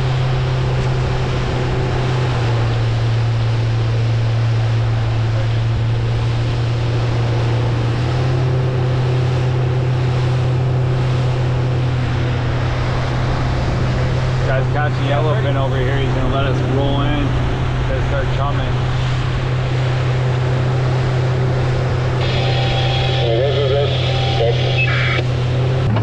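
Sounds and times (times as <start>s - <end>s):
boat engine humming: 0.0s - 26.0s
wind and water rushing: 0.0s - 26.0s.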